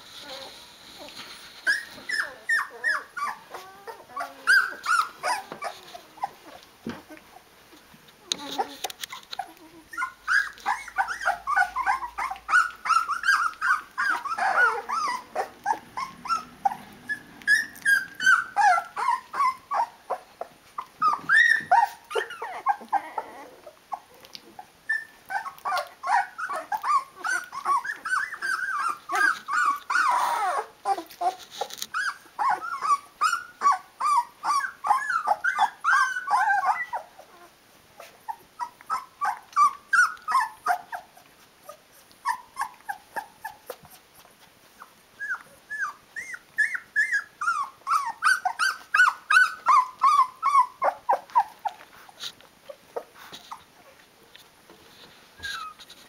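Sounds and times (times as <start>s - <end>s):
puppies whimpering and squeaking: 0.0s - 7.5s, 8.2s - 56.0s.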